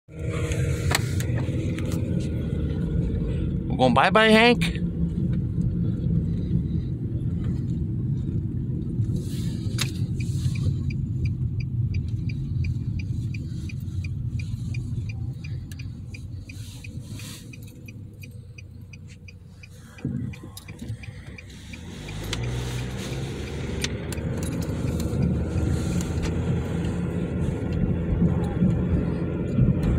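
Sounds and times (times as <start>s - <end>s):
car cabin road noise: 0.1s - 29.9s.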